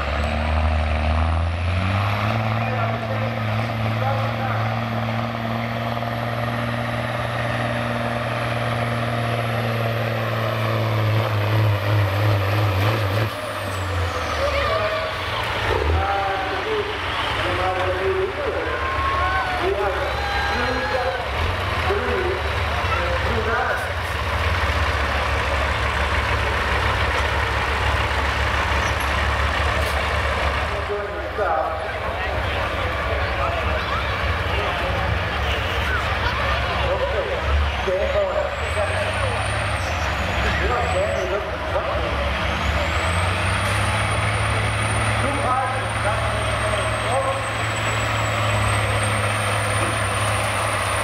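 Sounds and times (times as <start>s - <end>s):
truck diesel engine under load: 0.0s - 51.0s.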